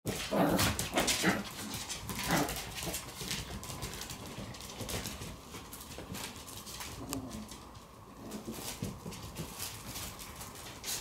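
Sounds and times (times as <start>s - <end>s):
scuffling on the floor: 0.1s - 11.0s.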